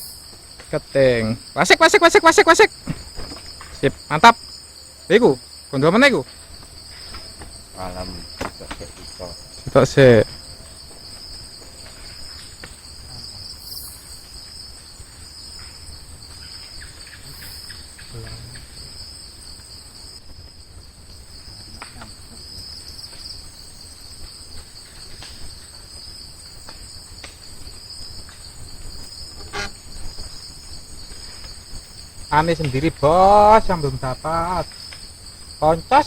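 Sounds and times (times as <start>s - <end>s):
crickets trilling: 0.0s - 36.0s.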